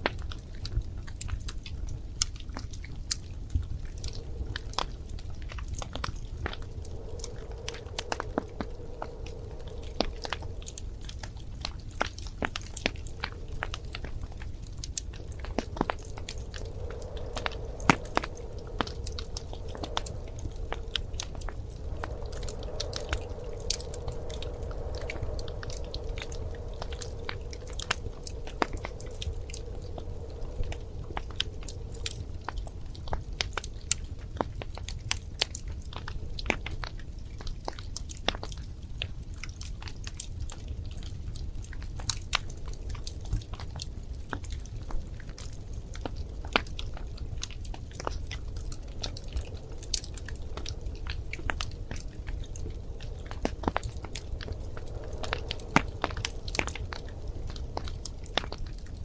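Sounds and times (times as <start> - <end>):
faint hiss: 0.0 - 59.0
wood fire crackling: 0.0 - 59.0.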